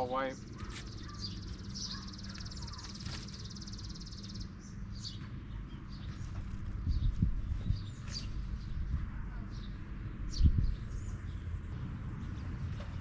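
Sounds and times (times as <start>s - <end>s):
birds chirping: 0.0s - 13.0s
low steady hum: 0.0s - 13.0s.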